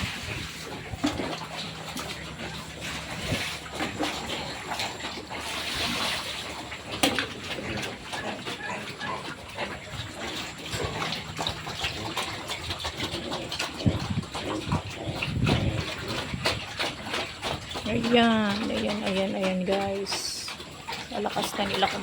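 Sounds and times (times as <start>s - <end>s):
pigs chewing and slurping: 0.0s - 22.0s.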